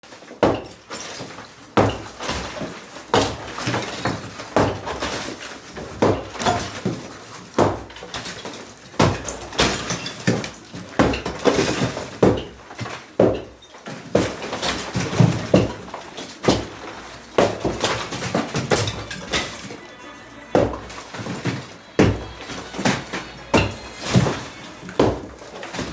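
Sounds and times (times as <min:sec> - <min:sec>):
crumbling and clattering block pieces: 0:00.1 - 0:25.9.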